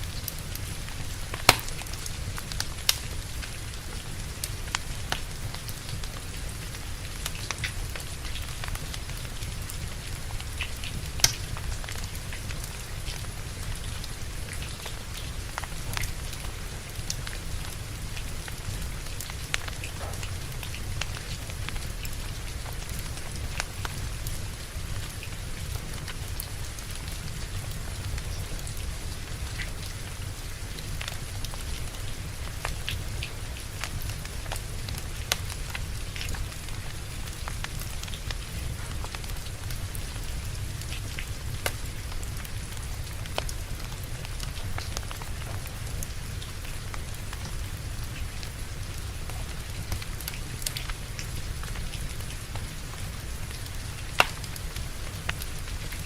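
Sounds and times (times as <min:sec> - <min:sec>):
steady rain: 0:00.0 - 0:56.0
wood fire crackling and popping: 0:00.0 - 0:56.0.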